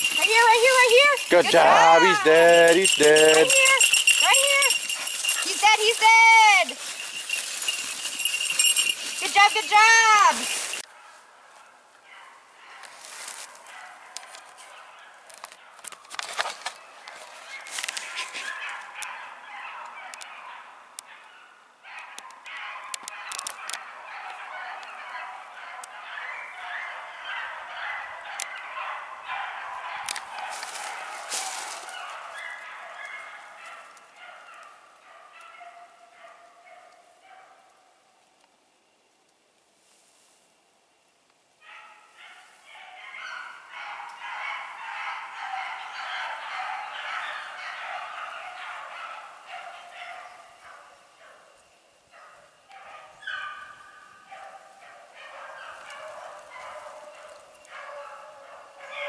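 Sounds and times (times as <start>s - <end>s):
dogs baying: 0.0s - 16.0s, 16.7s - 37.8s, 41.7s - 59.0s.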